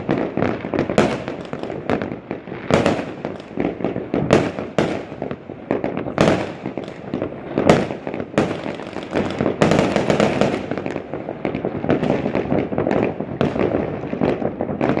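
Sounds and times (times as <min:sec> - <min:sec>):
fireworks crackling and popping: 0:00.0 - 0:15.0
sharp firework bangs: 0:00.0 - 0:15.0.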